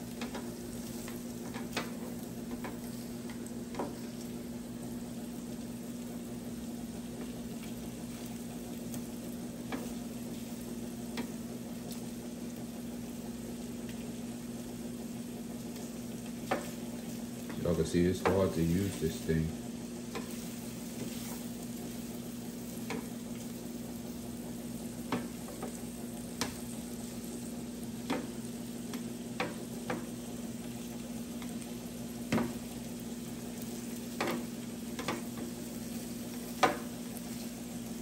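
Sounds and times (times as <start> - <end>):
shrimp sizzling on a griddle: 0.0 - 38.0.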